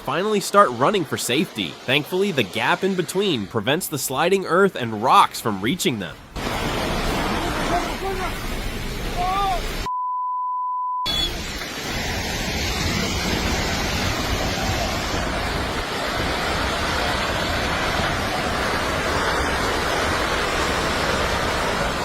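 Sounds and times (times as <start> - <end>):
steady rushing noise: 0.0 - 9.9, 11.1 - 22.0.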